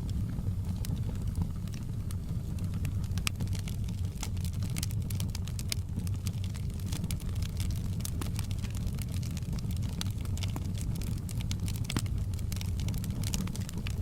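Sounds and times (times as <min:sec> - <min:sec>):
wood fire crackling: 0:00.0 - 0:14.0
rain rumbling: 0:02.6 - 0:14.0.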